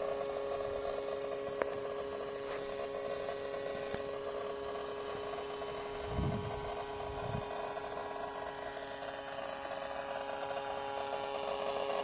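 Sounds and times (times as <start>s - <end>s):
laptop electrical whine: 0.0s - 12.0s.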